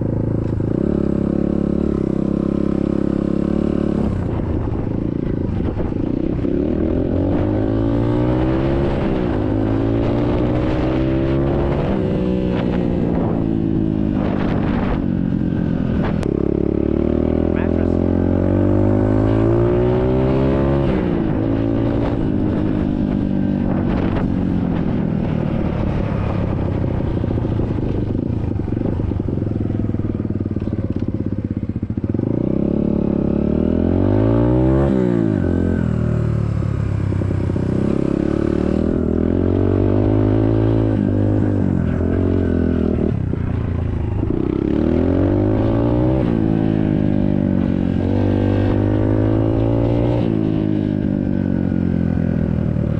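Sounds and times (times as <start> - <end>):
dirt bike engine accelerating: 0.0 - 52.9.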